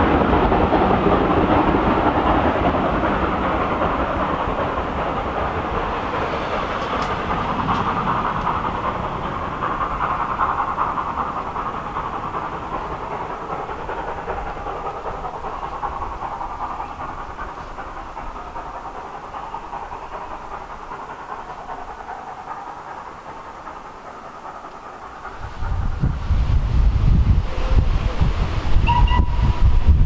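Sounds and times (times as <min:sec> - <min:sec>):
steam train running: 0:00.0 - 0:30.0.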